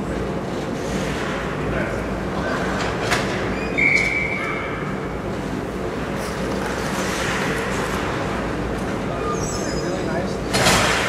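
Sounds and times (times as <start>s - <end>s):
low hum of ice rink: 0.0s - 11.0s.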